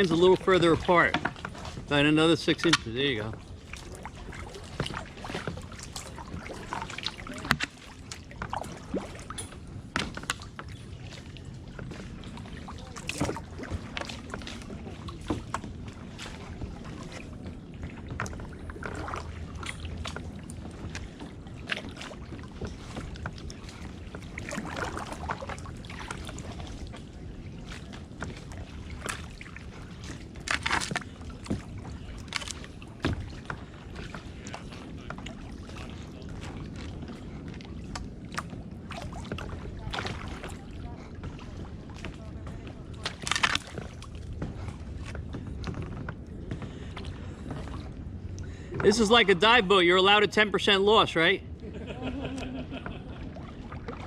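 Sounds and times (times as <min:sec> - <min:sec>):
paddle splashing in water: 0:00.0 - 0:54.0
paddle knocking against boat: 0:00.6 - 0:47.9.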